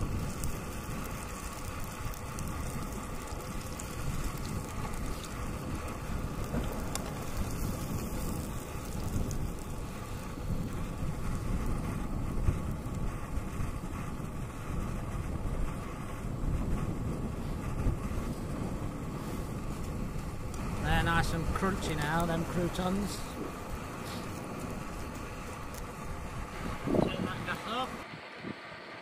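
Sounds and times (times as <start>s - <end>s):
croutons frying in oil: 0.0s - 15.0s, 16.1s - 28.1s
camp stove hissing: 0.0s - 29.0s
wind buffeting microphone: 0.0s - 29.0s.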